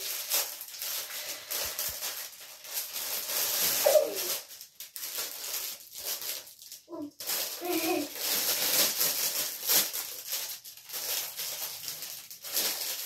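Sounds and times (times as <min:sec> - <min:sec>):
metallic gift wrap crinkling: 0:00.0 - 0:13.0.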